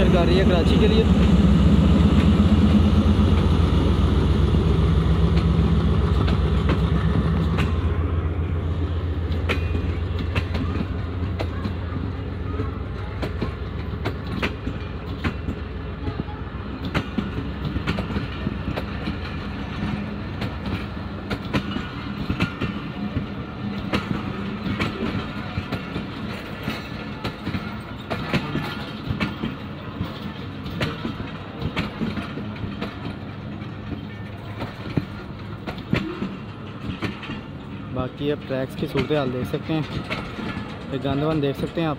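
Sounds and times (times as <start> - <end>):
train coaches rumbling past: 0.0 - 41.9
wheels clacking over rail joints: 0.0 - 41.9.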